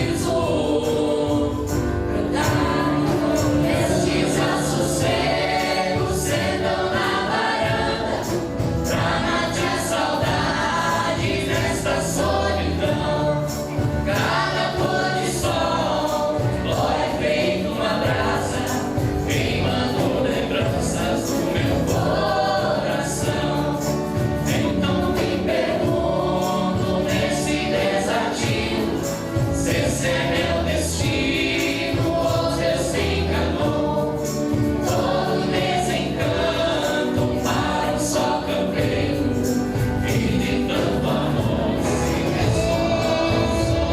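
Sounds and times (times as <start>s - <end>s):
choir singing with instruments: 0.0s - 43.9s.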